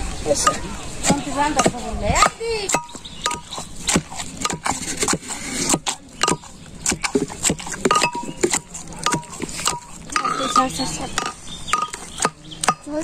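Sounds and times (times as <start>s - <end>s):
metal utensils clinking on pot: 0.4s - 3.7s, 4.4s - 13.0s.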